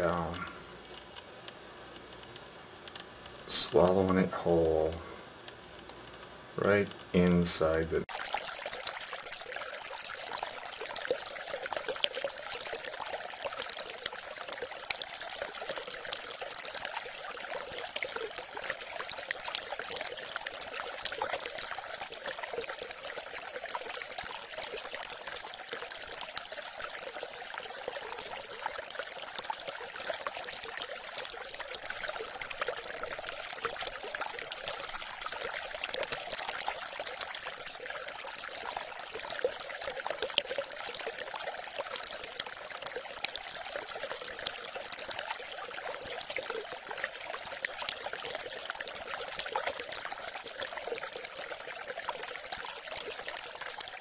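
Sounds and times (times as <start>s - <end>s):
water trickling: 3.2s - 54.0s.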